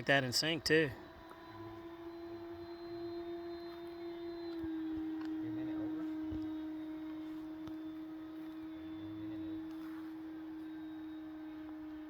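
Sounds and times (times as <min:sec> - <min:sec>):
model planes motor hum: 0:00.0 - 0:12.0.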